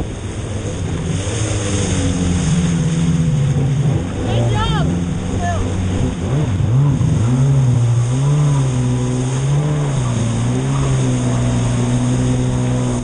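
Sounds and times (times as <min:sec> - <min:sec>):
jet ski engine at speed: 0:00.0 - 0:13.0.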